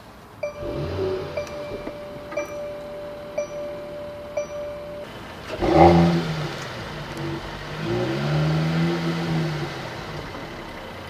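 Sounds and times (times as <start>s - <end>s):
car engine revving: 0.4s - 11.0s.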